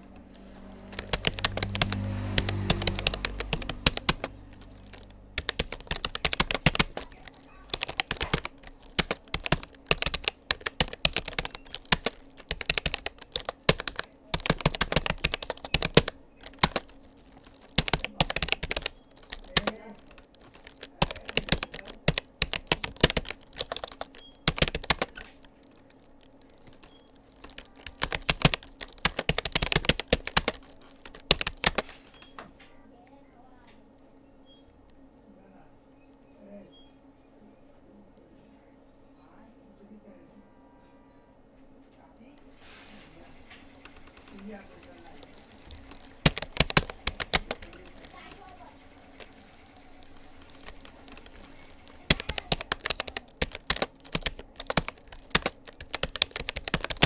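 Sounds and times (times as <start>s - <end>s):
keyboard typing clicks: 0.1s - 32.5s, 43.4s - 57.0s.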